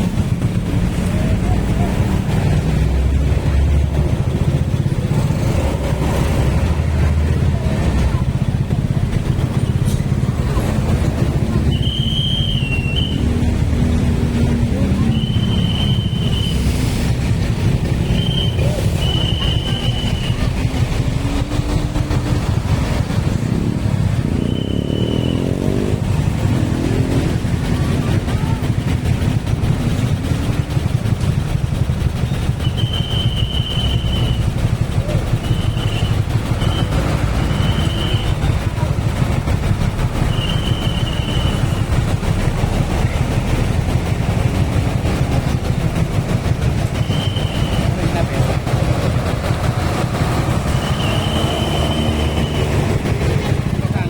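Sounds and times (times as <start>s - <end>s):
engine low rumble: 0.0s - 54.0s.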